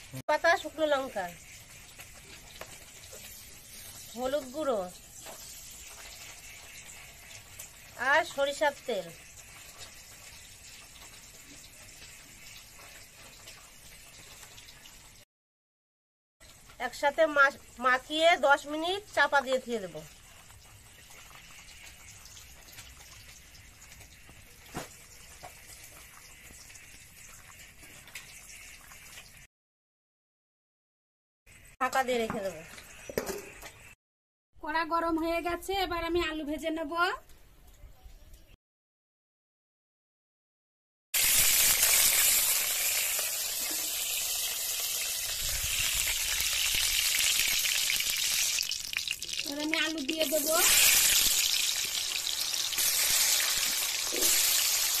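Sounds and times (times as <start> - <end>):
hot oil sizzling: 0.0 - 15.3, 16.4 - 29.5, 31.5 - 34.0, 41.2 - 55.0.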